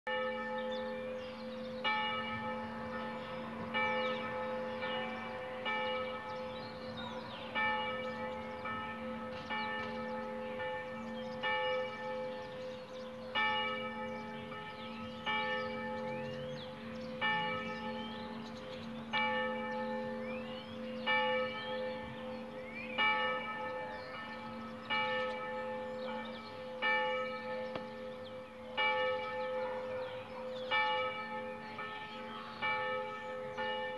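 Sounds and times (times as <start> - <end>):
church bell tolling: 0.1 - 33.9.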